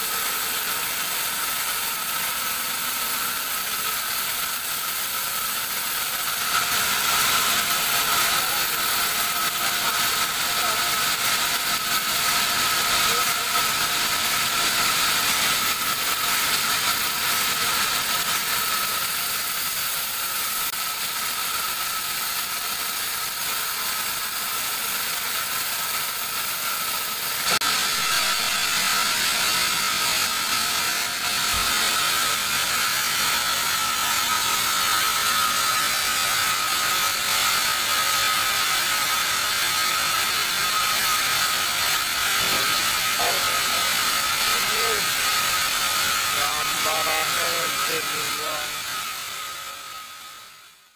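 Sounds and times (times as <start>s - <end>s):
band saw cutting wood: 0.0s - 50.8s.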